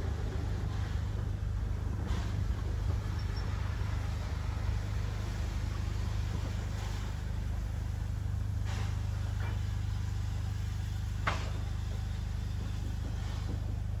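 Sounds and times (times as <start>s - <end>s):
train rumbling on the line: 0.0s - 14.0s.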